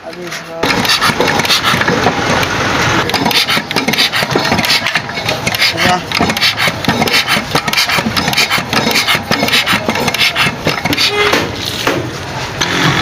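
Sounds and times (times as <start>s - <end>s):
rasping and clattering hand work: 0.1s - 11.4s.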